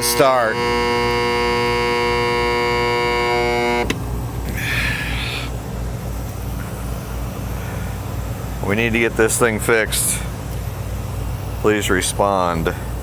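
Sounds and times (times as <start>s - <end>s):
pump motor buzzing: 0.0s - 13.0s.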